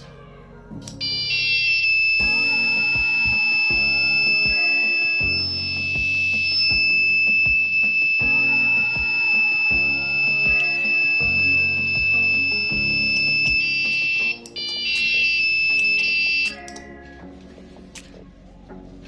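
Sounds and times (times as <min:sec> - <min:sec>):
background music with a beat: 0:02.2 - 0:18.2.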